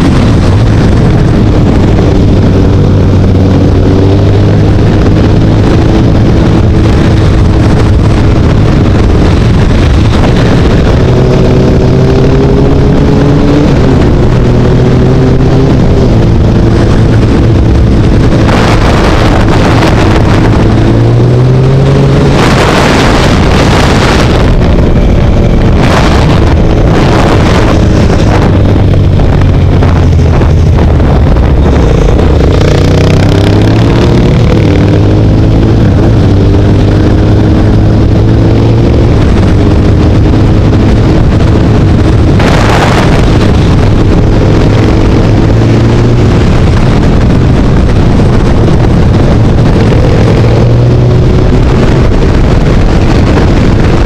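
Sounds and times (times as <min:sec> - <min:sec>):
motorcycle engine revving: 0:00.0 - 0:54.0
wind on microphone: 0:00.0 - 0:54.0.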